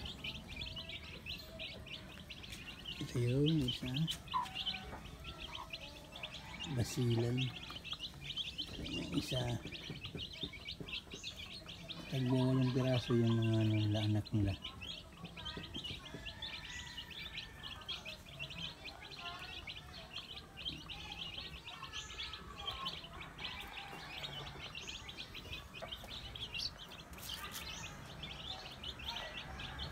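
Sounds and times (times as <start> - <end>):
chicks peeping: 0.0 - 29.9.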